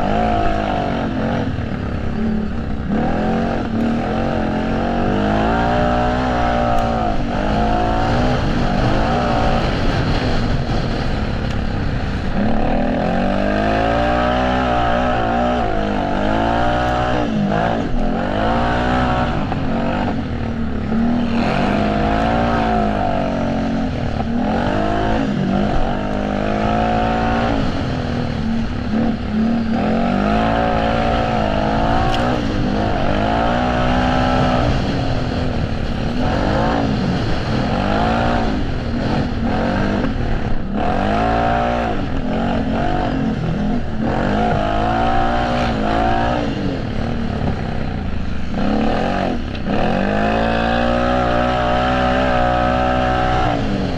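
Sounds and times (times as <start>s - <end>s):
atv engine revving: 0.0s - 53.9s.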